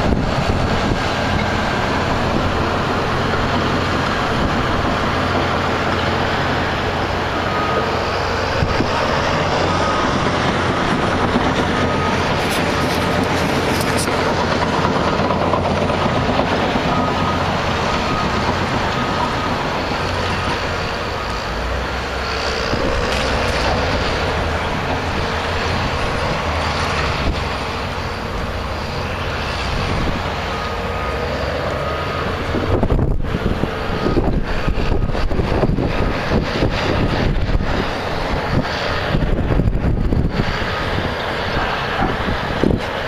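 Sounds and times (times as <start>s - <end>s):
bulldozer diesel engine running: 0.0s - 43.0s.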